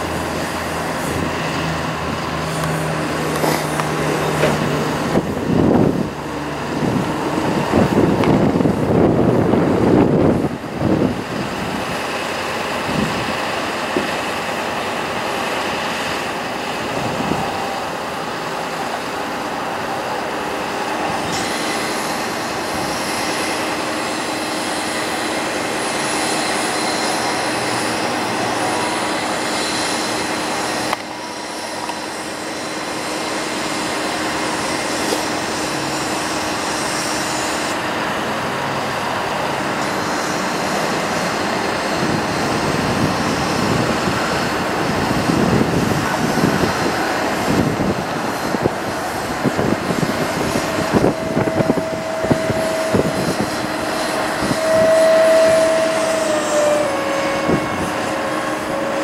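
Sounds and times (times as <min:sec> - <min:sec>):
truck hydraulics running with whine: 0:00.0 - 0:59.0.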